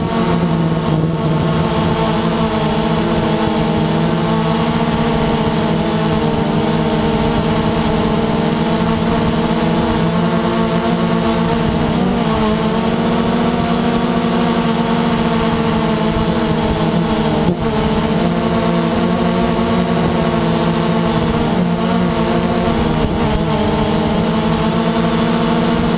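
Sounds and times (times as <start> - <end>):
drone propellers buzzing: 0.0 - 25.9.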